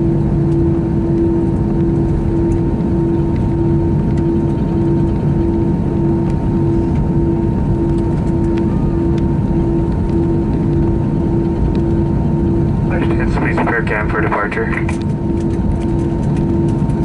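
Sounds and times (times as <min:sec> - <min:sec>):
aircraft cabin engine drone: 0:00.0 - 0:17.0.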